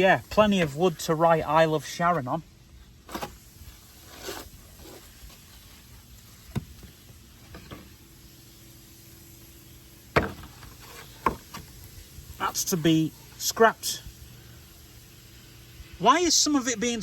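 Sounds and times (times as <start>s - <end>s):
background hiss: 0.0s - 17.0s
faint steady hum: 0.0s - 17.0s.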